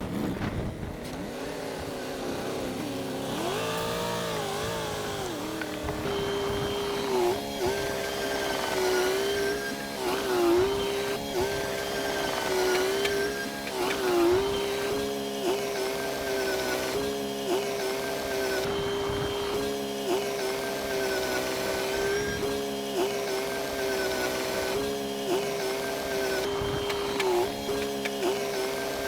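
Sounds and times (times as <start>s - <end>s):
heavy machine engine running: 0.0s - 29.0s.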